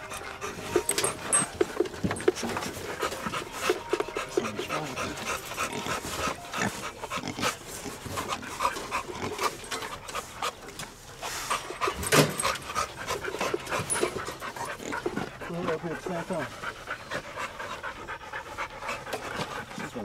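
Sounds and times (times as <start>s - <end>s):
dogs panting: 0.0s - 20.0s.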